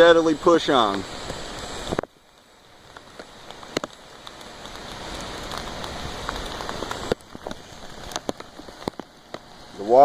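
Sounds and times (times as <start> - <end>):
heavy rain hissing: 0.0 - 10.0
raindrops ticking: 0.0 - 10.0.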